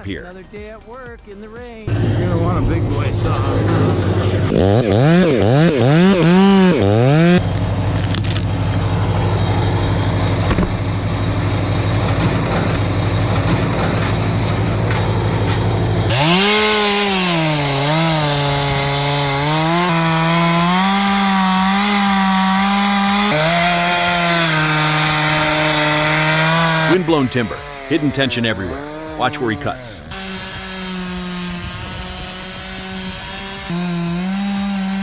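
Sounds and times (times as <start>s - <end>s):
chainsaw cutting wood: 0.0s - 35.0s
chainsaw revving: 0.0s - 35.0s.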